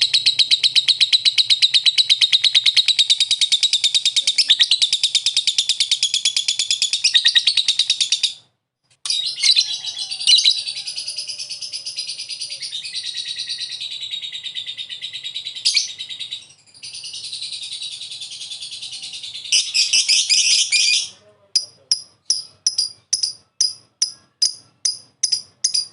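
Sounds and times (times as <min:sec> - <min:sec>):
lovebird shrill chattering trill: 0:00.0 - 0:08.4, 0:09.1 - 0:25.9.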